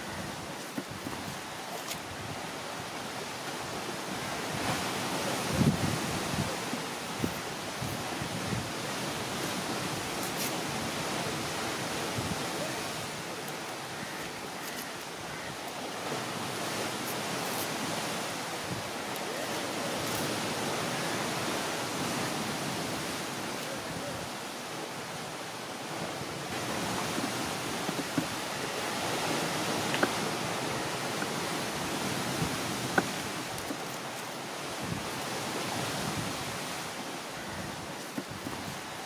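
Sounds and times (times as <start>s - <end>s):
sea surf: 0.0s - 39.0s
wind: 0.0s - 39.0s.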